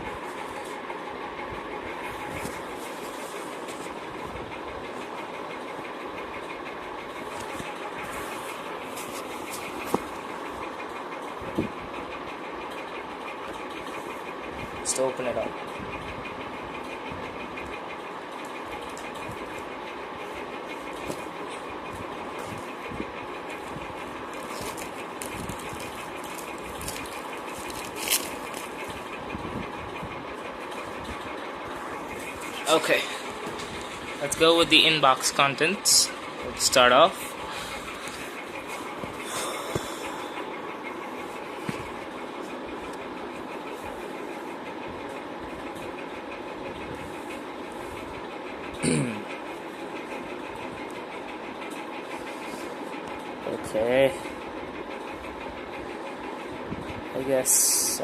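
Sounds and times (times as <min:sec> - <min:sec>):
mechanical rumble and hiss: 0:00.0 - 0:58.0
pulsing machine hum: 0:00.0 - 0:58.0.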